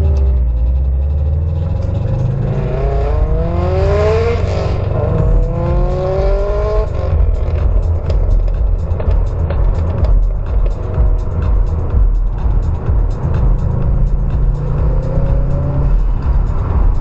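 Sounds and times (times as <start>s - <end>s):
car engine accelerating: 0.0s - 17.0s
low exhaust rumble: 0.0s - 17.0s.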